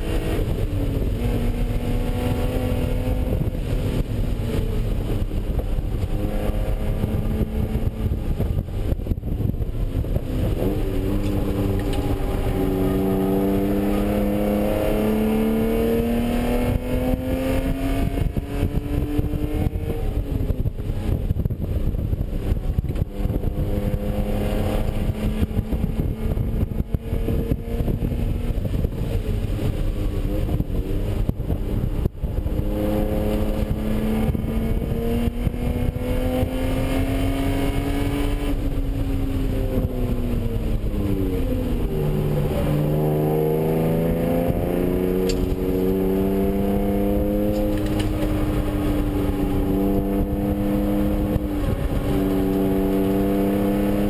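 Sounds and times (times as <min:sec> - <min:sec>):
car engine revving: 0:00.0 - 0:54.0
wind and road noise: 0:00.0 - 0:54.0.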